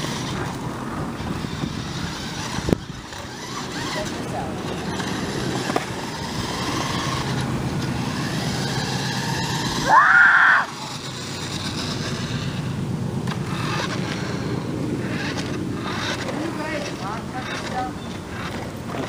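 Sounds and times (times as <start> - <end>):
loud rising whine: 0.0 - 16.3
toy truck motor whirring: 0.0 - 19.0.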